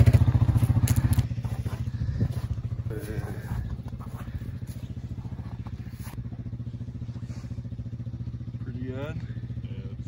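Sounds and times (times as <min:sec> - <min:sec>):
moped engine idling: 0:00.0 - 0:10.0.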